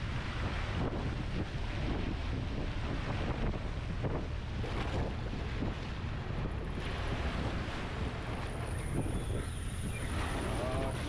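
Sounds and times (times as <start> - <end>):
choppy sea and boat wake: 0.0 - 11.0
wind buffeting microphone: 0.0 - 11.0.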